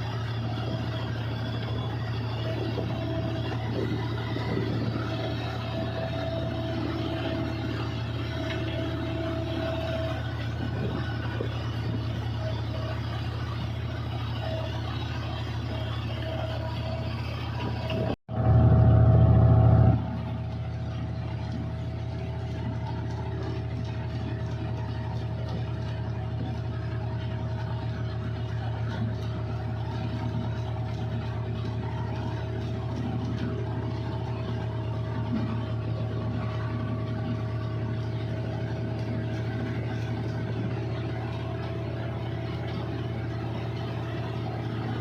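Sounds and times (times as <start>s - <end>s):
combine harvester running: 0.0s - 45.0s.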